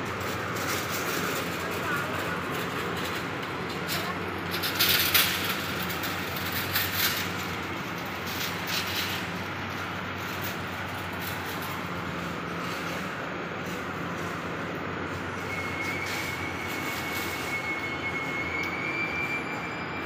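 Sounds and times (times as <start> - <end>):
low mechanical hum: 0.0 - 20.0
traffic noise: 0.0 - 20.0.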